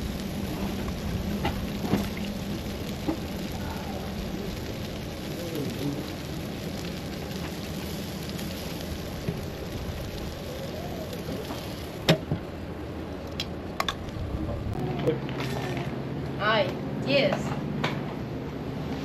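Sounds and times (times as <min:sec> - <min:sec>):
food sizzling on grill: 0:00.0 - 0:17.2.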